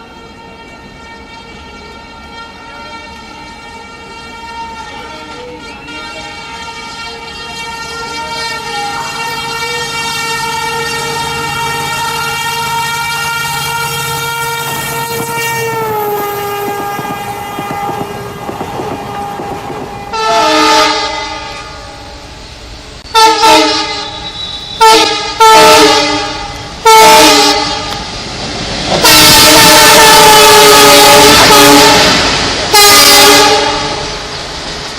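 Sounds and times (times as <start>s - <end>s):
single-pitched locomotive horn: 0.0s - 22.3s, 23.0s - 28.1s, 29.0s - 34.2s
chord horn blasts: 0.2s - 22.2s, 23.1s - 28.0s, 29.0s - 34.2s.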